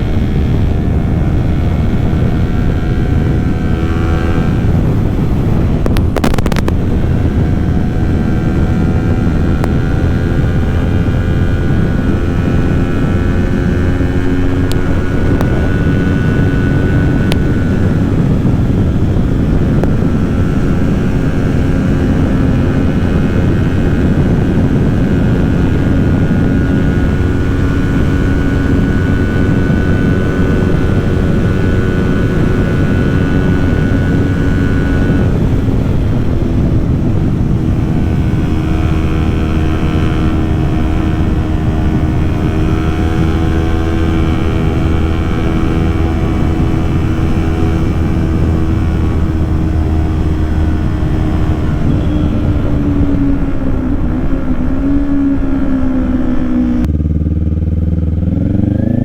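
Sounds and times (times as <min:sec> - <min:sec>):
motorcycle engine cruising: 0:00.0 - 0:59.0
wind noise: 0:00.0 - 0:59.0.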